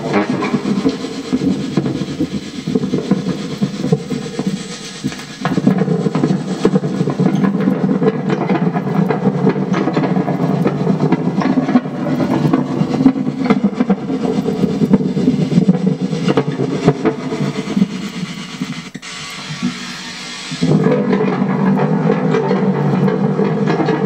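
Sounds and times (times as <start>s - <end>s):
garbled tape playback with crackle: 0.0s - 24.0s.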